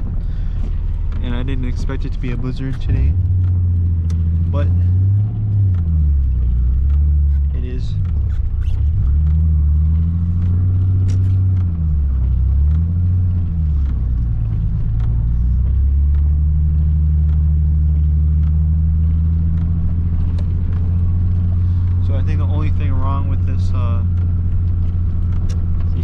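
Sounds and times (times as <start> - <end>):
car engine drone from cabin: 0.0 - 26.0.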